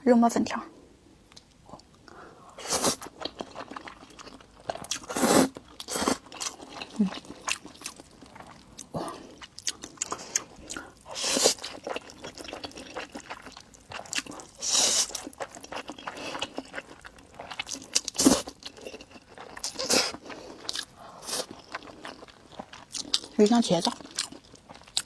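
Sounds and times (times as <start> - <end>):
chewing and wet mouth sounds: 1.3 - 25.0.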